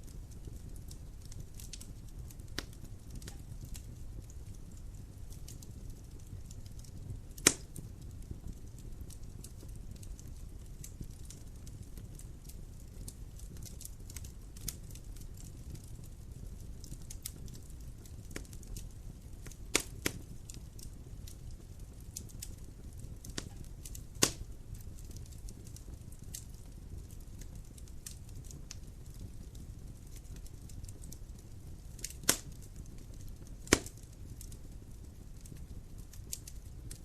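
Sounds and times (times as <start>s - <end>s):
fire pops: 0.0s - 37.0s
wood fire crackling: 0.0s - 37.0s.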